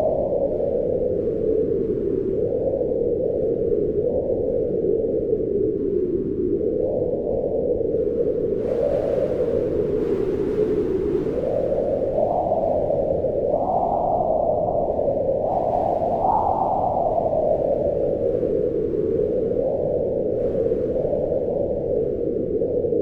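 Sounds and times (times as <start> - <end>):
wind howling: 0.0 - 23.0.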